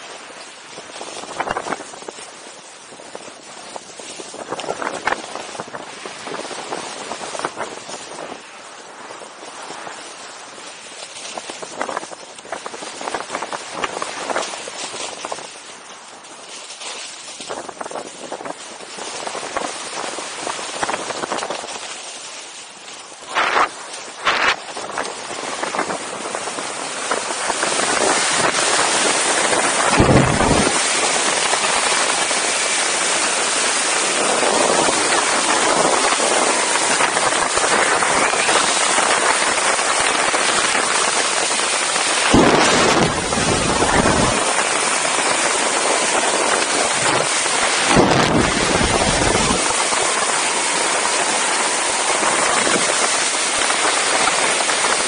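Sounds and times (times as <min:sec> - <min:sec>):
deep wind buffeting gusts: 0:00.0 - 0:55.0
wind rushing on microphone: 0:00.0 - 0:55.0.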